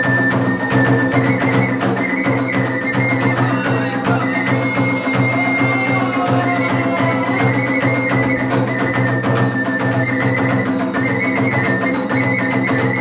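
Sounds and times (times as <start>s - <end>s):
drum keeping steady beat: 0.0s - 13.0s
high flute melody: 0.0s - 13.0s
light percussion: 0.0s - 13.0s.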